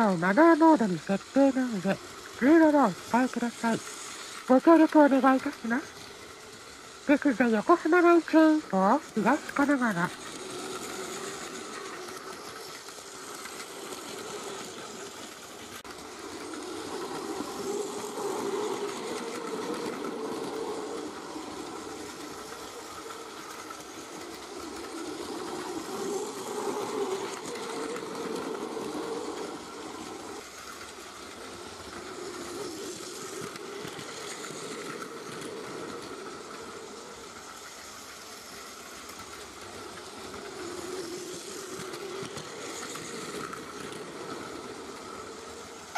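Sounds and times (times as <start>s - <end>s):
toy train motor whirring: 0.0s - 45.9s.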